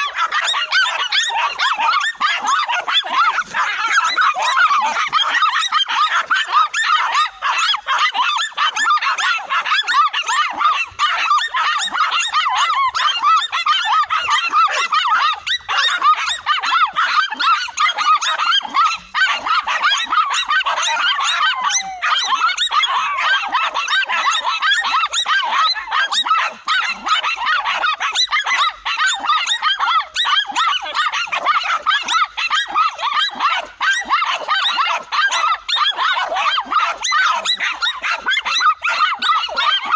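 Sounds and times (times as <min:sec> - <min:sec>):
dogs barking and yapping: 0:00.0 - 0:39.9.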